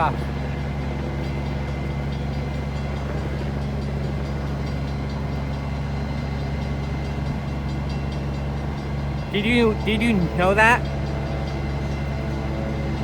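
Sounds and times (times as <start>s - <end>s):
large engine idling: 0.0s - 13.0s.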